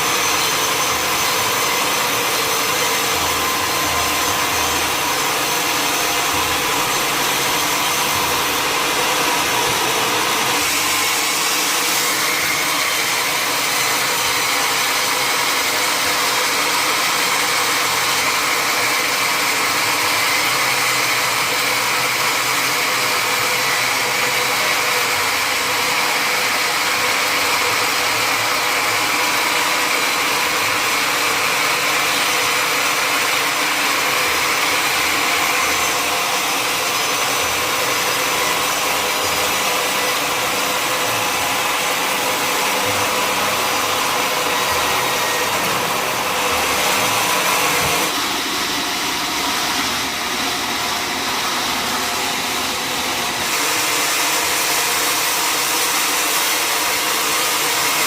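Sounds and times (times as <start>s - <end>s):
sawmill machinery whine: 0.0s - 58.0s.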